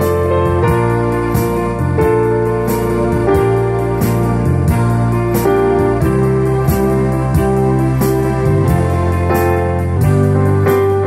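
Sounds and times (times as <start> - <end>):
keyboard chords: 0.0 - 11.0.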